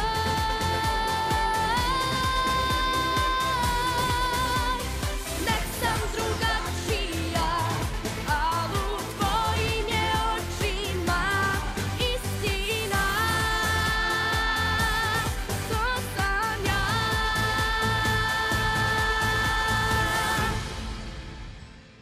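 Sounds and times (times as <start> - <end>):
pop music beat: 0.0 - 21.1
woman singing without words: 0.0 - 21.1.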